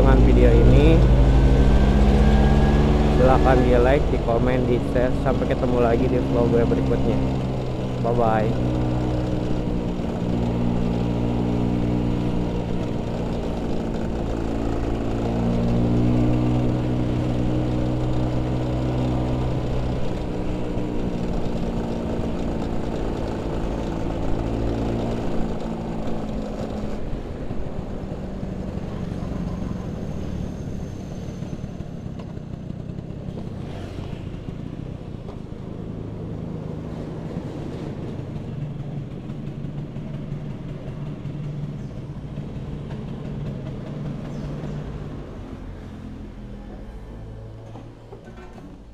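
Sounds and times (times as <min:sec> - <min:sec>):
scooter engine running: 0:00.0 - 0:45.8
road noise: 0:00.0 - 0:48.9.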